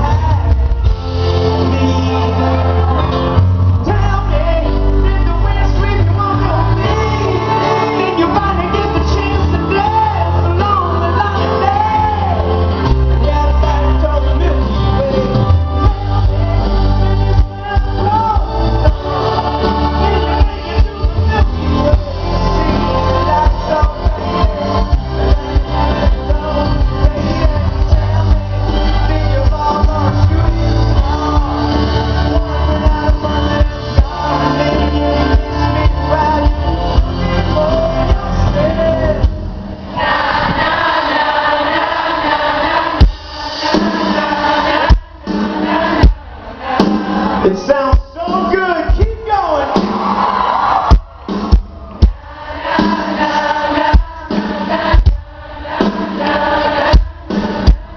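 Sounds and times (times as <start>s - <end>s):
lead singer singing: 0.0s - 57.9s
live rock band playing: 0.0s - 57.9s.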